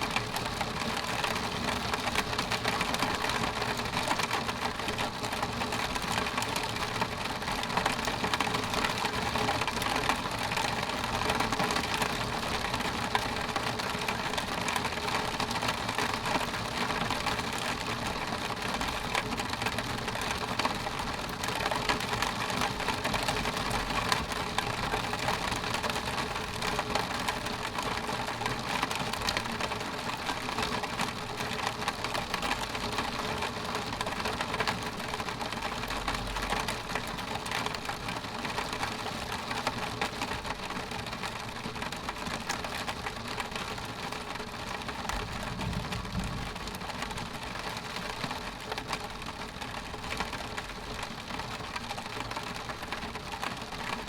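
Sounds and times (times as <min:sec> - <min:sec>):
rain pattering on a window: 0:00.0 - 0:54.0.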